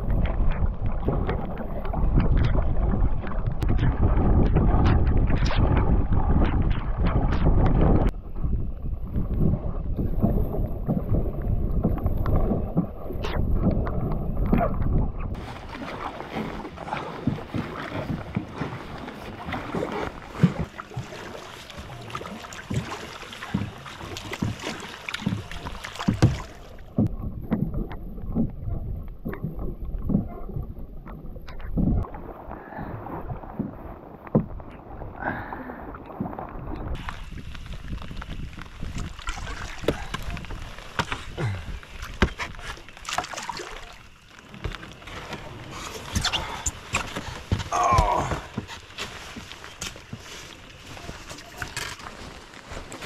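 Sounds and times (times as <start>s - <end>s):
paddle splashing in water: 0.0s - 53.0s.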